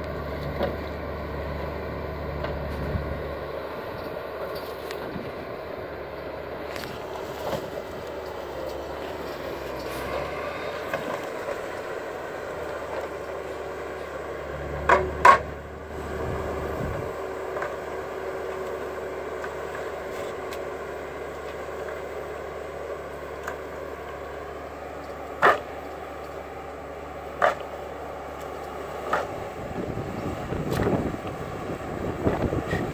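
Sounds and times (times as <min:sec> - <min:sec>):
forestry machine droning: 0:00.0 - 0:32.9.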